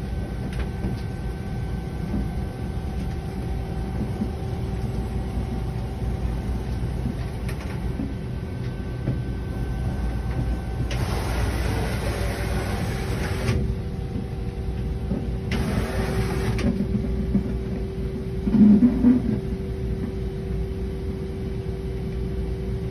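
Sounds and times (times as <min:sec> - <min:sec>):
lathe humming and whining: 0:00.0 - 0:18.4.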